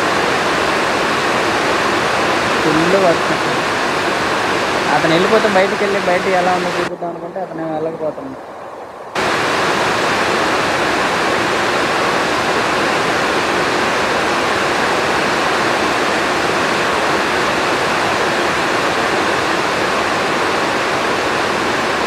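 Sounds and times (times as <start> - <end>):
heavy rain on a roof: 0.0 - 7.0, 9.2 - 22.0.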